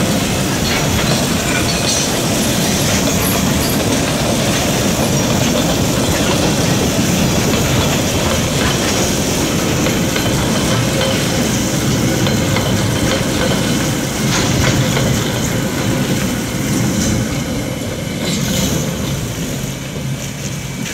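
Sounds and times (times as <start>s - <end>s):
freight train rolling past: 0.0s - 20.9s
wheels clicking over rail joints: 0.0s - 20.9s.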